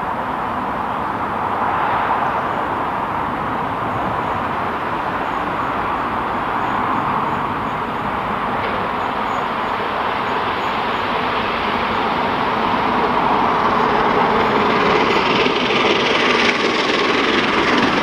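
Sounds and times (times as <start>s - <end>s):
train rushing: 0.0s - 18.0s.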